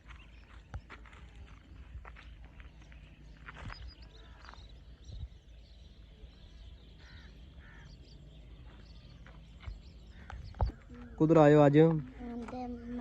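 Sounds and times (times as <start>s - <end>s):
bird calls: 0.0s - 13.0s.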